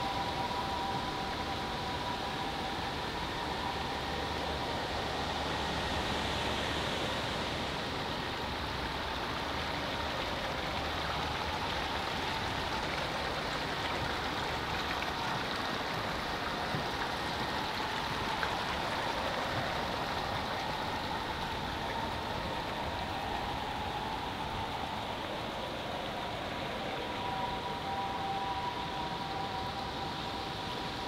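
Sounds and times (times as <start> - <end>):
water rushing in a stream: 0.0 - 31.0.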